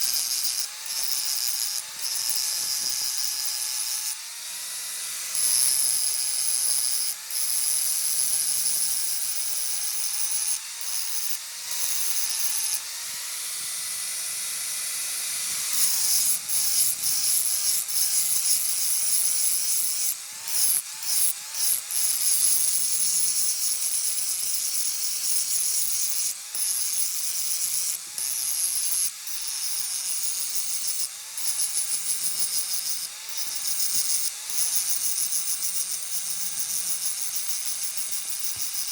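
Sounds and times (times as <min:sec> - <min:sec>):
power tool grinding metal: 0:00.0 - 0:38.9.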